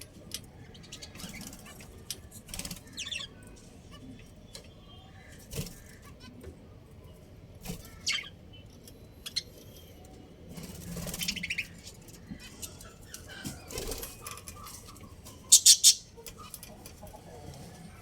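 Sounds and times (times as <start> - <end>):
budgerigars chirping and chattering: 0.3 - 6.4, 7.7 - 10.0, 10.6 - 17.9.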